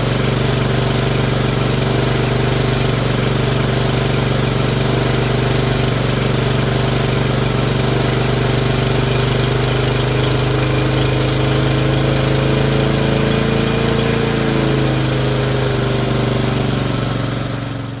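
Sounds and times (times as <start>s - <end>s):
lawnmower engine running: 0.0s - 18.0s.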